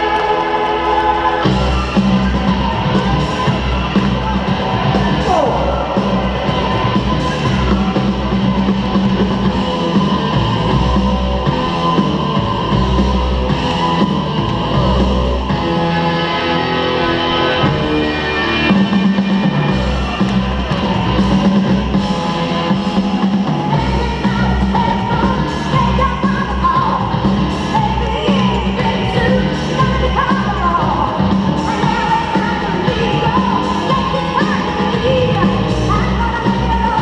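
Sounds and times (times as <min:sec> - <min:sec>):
drum kit beat: 0:01.4 - 0:15.8, 0:18.7 - 0:37.0.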